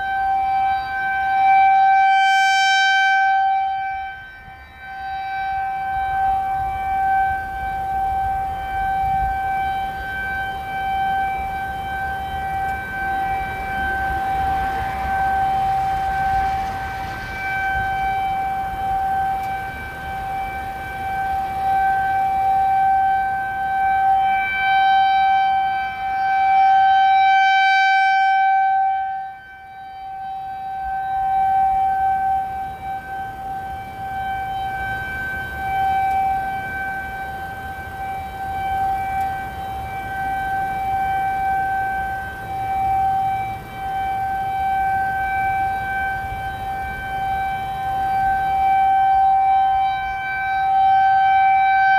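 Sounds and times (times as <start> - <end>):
distant siren alert tone: 0.0 - 51.9.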